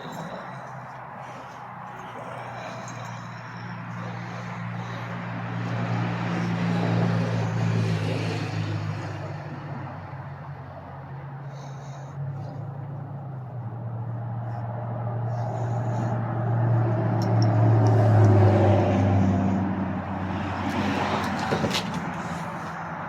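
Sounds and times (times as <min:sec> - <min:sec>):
vehicle engine passing: 0:00.0 - 0:23.0.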